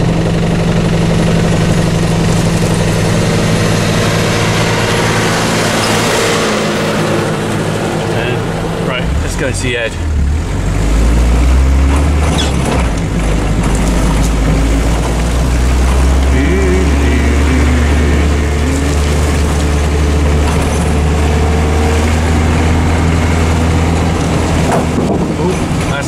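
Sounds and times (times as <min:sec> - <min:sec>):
off-road vehicle engine droning: 0:00.0 - 0:26.0.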